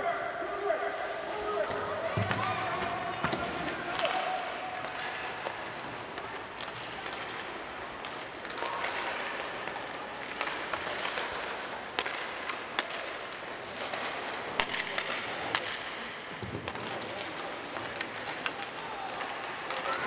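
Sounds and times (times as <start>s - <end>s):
hockey sticks and pucks clacking: 0.1s - 20.0s
skates scraping on ice: 0.2s - 20.0s.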